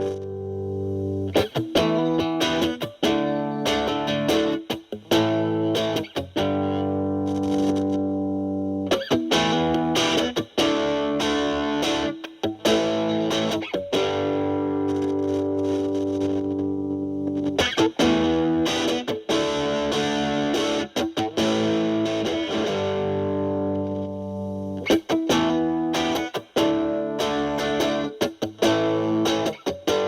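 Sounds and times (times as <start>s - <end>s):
distorted electric guitar chords: 0.0s - 30.0s.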